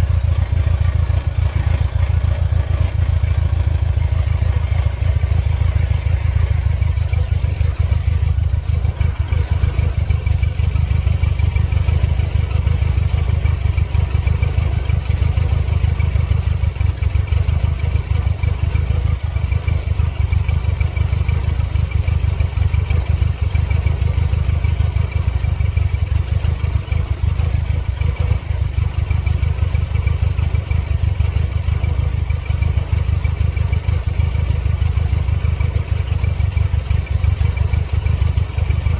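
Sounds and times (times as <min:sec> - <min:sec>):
car engine idling rumble: 0:00.0 - 0:38.9.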